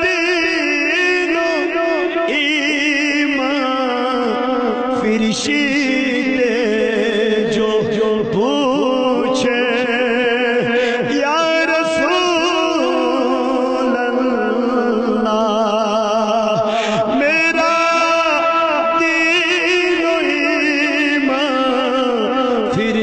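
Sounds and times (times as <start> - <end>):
man chanting: 0.0 - 23.0.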